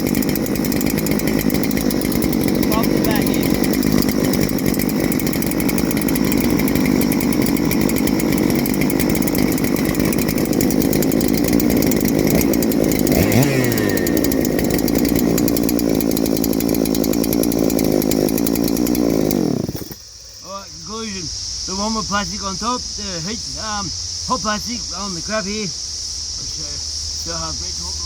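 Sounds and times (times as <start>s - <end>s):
chainsaw engine running: 0.0s - 25.6s.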